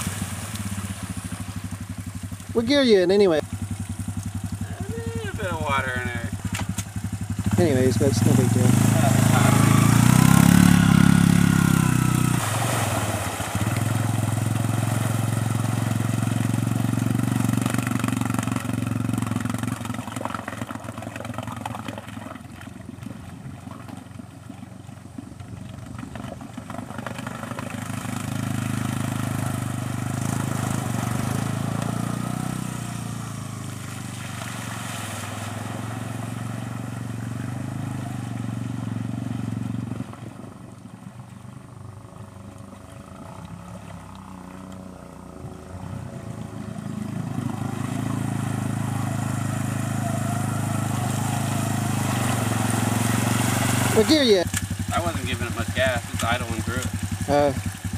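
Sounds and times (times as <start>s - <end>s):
atv engine at low throttle: 0.0s - 57.9s.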